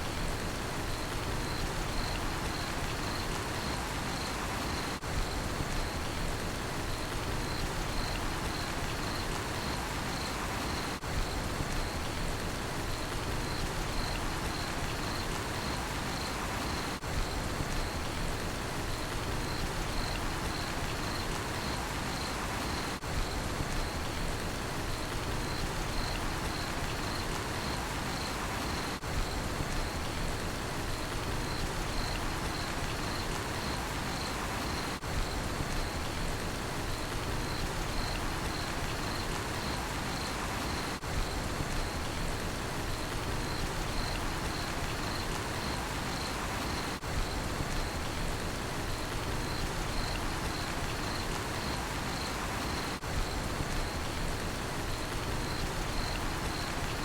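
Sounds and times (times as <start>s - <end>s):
steady rain falling: 0.0s - 57.0s
cricket chirping: 0.8s - 6.2s, 6.9s - 12.2s, 12.9s - 18.2s, 18.8s - 24.2s, 24.9s - 30.2s, 31.0s - 36.2s, 36.8s - 42.3s, 42.9s - 57.0s.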